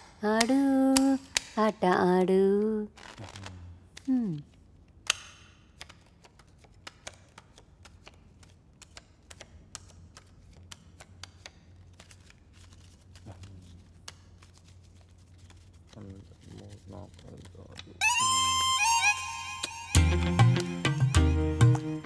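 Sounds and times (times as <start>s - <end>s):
playing cards flicking and tapping: 0.0s - 1.6s, 2.6s - 18.0s, 19.1s - 22.0s.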